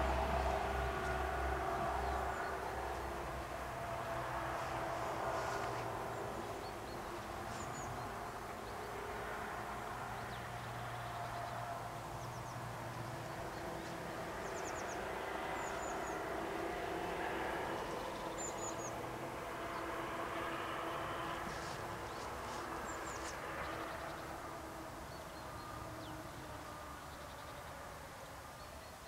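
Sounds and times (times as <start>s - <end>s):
outdoor background hum: 0.0s - 29.0s.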